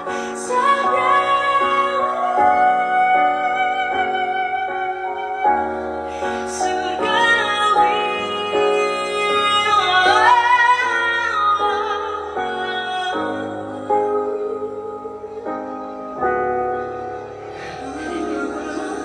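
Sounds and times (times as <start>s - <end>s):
piano accompaniment: 0.0s - 19.0s
woman singing: 0.0s - 19.0s.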